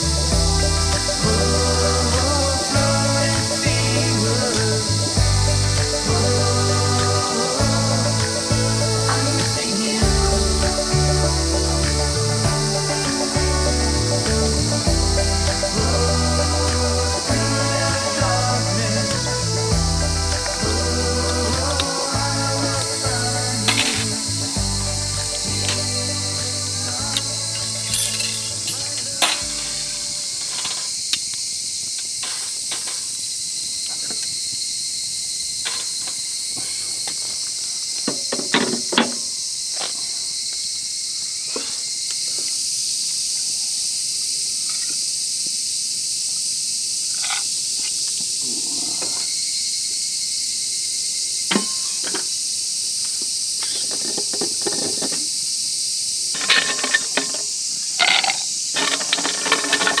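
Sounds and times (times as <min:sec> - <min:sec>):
insect chorus droning: 0:00.0 - 1:00.0.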